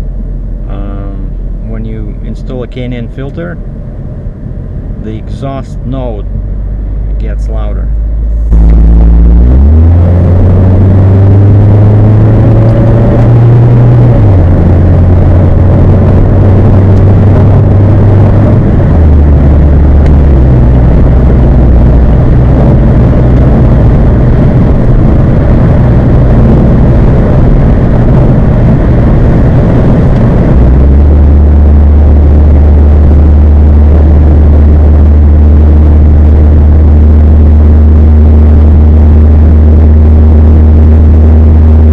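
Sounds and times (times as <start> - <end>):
car exhaust drone: 0.0 - 41.9.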